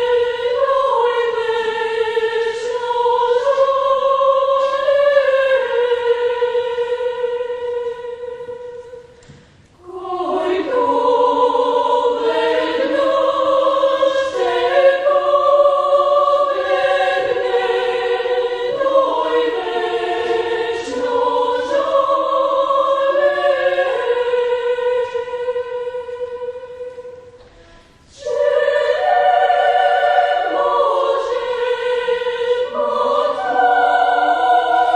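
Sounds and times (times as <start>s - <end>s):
children's choir singing in harmony: 0.0s - 34.9s.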